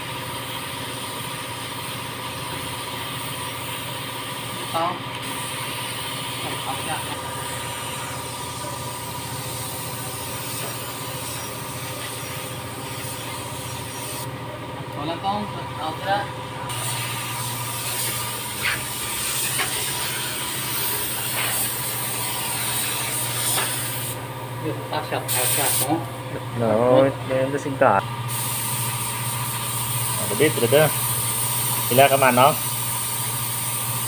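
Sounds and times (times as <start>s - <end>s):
spray gun hissing: 0.0s - 14.3s, 16.7s - 24.3s, 25.3s - 26.0s, 28.3s - 34.0s
steady machine hum: 0.0s - 34.0s.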